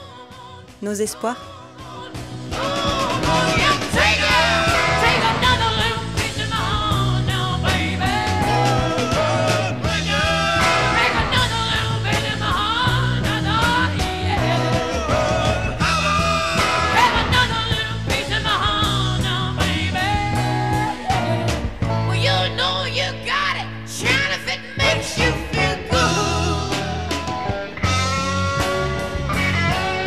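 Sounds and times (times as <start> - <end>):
song with drum beat and vocals: 0.0 - 30.0.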